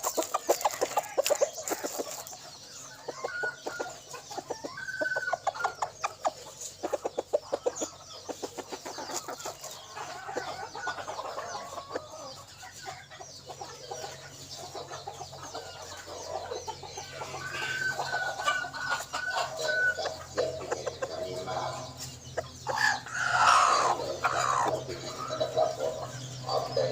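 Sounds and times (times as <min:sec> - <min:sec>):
hen decoy clucking: 0:00.0 - 0:26.9
small birds chirping: 0:00.0 - 0:26.9.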